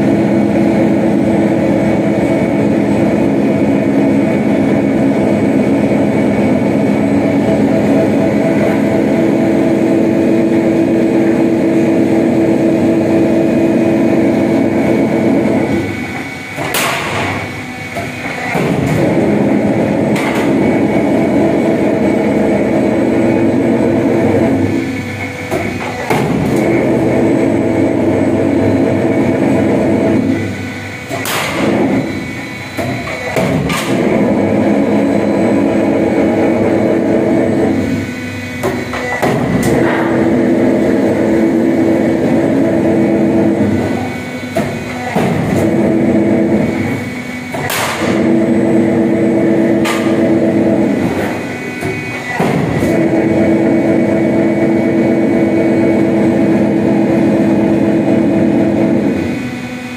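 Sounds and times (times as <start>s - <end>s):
machine droning: 0.0s - 59.9s.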